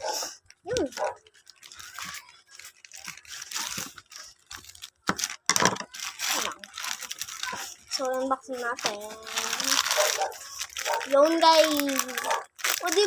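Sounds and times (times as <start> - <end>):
packaging tearing and crinkling: 0.4 - 13.0.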